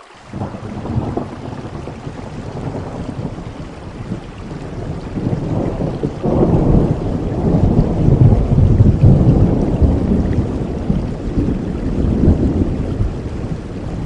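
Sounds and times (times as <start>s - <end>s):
heavy rain: 0.0s - 14.0s
thunder rumbling: 0.3s - 14.0s.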